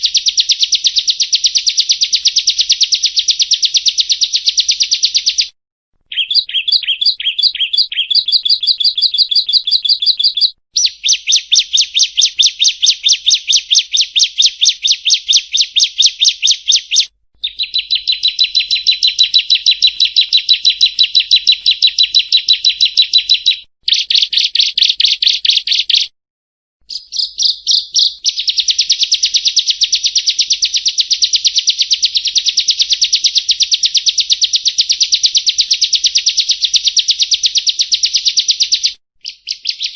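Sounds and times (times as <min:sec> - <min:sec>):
bird chirping trills: 0:06.1 - 0:26.1, 0:26.8 - 0:39.9.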